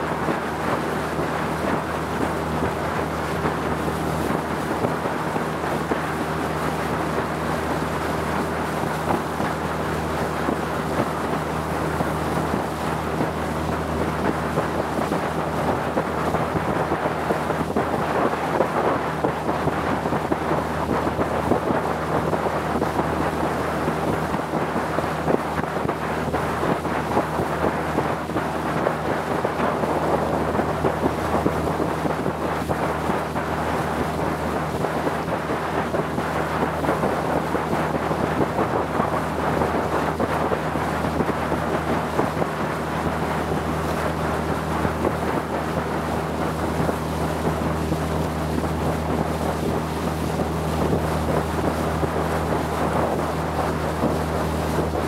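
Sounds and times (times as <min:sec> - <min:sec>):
motorboat engine droning: 0:00.0 - 0:55.0
water and wind rushing: 0:00.0 - 0:55.0.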